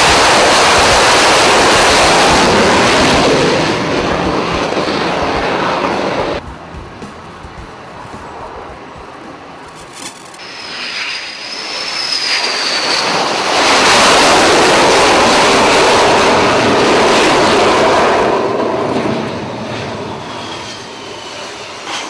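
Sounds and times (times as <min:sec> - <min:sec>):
loud jet engine roar: 0:00.0 - 0:09.8, 0:10.4 - 0:22.0
jet engine whine: 0:00.0 - 0:22.0.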